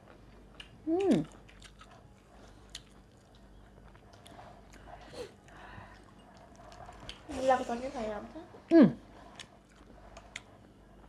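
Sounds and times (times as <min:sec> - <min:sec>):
person chewing food: 0:00.0 - 0:07.3, 0:09.1 - 0:11.0.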